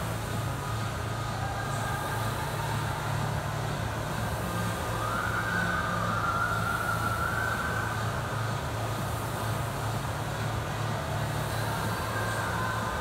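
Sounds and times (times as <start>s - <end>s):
rowing machine flywheel whirring: 0.0s - 13.0s.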